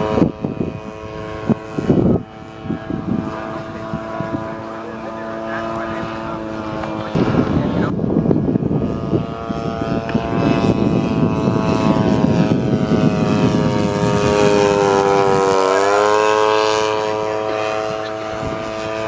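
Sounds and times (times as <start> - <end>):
model plane engine and propeller: 0.0 - 19.0.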